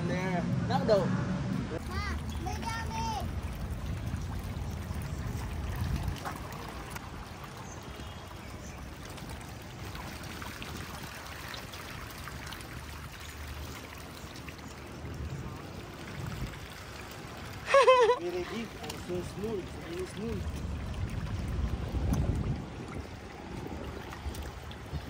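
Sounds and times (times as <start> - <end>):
fish splashing at water surface: 1.8 - 25.0.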